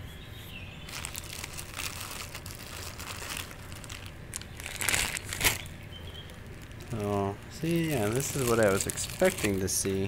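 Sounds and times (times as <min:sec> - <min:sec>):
plastic bag crinkling: 0:00.9 - 0:10.0.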